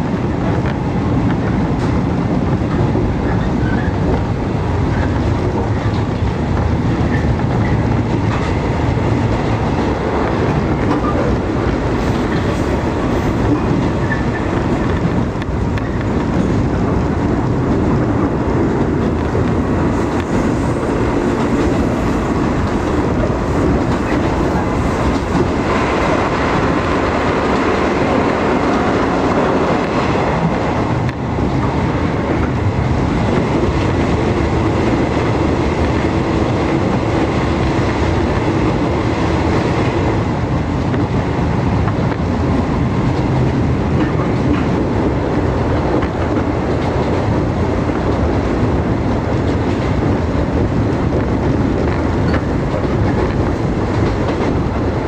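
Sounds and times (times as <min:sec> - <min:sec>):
train wheels on rail: 0:00.0 - 0:55.0.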